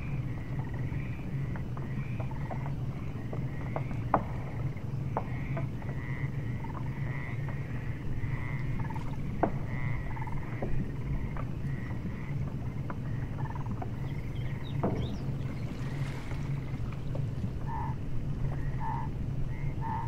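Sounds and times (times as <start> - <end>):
ship engine drone: 0.0 - 20.0.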